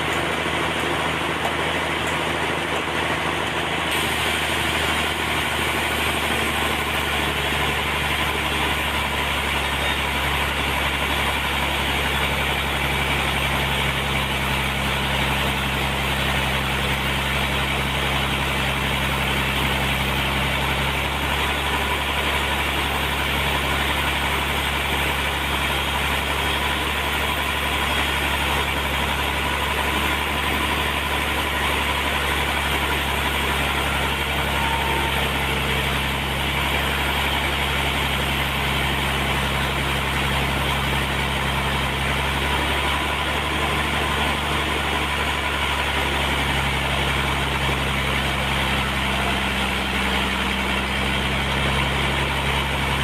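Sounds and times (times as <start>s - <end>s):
sawmill engine and saw running: 0.0s - 53.0s.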